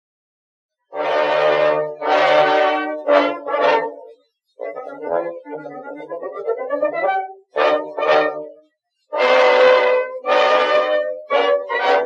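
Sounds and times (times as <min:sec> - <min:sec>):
brass instrument music: 0:00.9 - 0:12.0.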